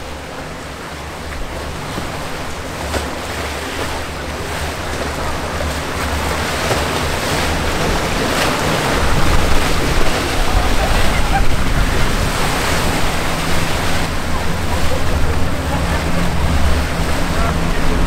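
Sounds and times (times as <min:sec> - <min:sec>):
turbulent water rushing and splashing: 0:00.0 - 0:18.0
wind buffeting microphone: 0:00.0 - 0:18.0.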